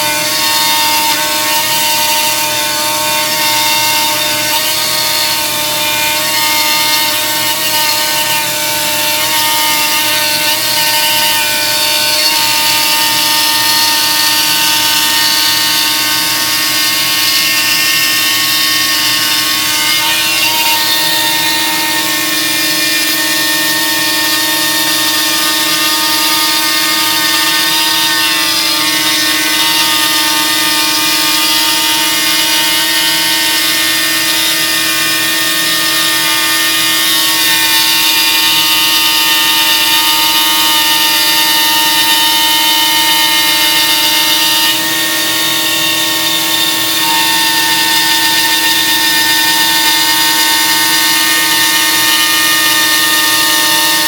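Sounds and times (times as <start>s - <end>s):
router spindle whining: 0.0s - 54.0s.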